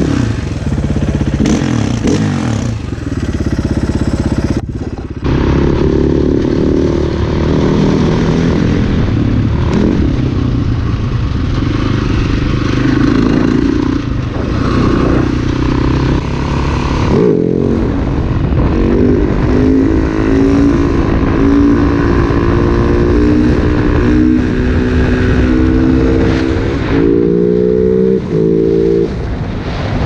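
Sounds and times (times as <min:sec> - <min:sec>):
dirt bike engine revving: 0:00.0 - 0:29.2.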